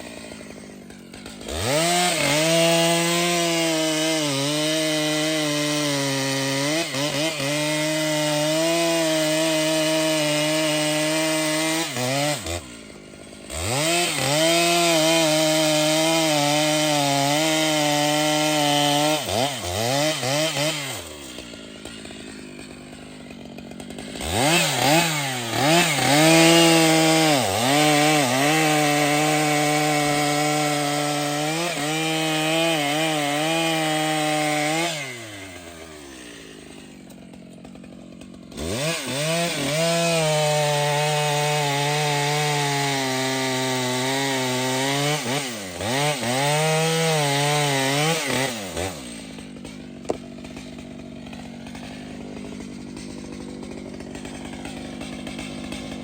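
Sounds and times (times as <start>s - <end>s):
chainsaw cutting tree: 0.0s - 56.0s.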